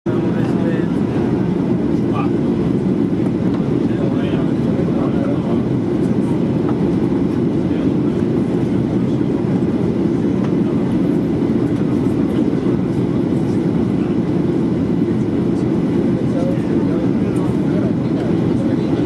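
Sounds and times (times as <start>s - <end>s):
airplane cabin rumble: 0.1s - 19.0s.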